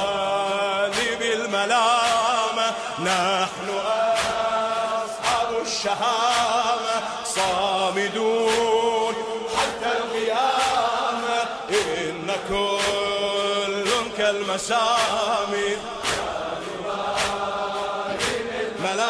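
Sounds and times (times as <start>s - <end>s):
man chanting: 0.0s - 16.3s
sharp percussive hits: 0.0s - 19.0s.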